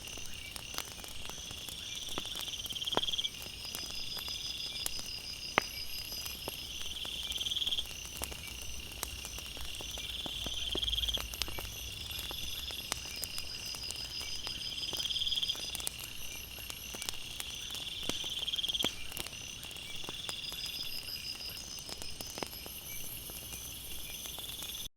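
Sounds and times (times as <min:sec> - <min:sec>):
night insects trilling: 0:00.0 - 0:24.9
wood fire crackling: 0:00.0 - 0:24.9.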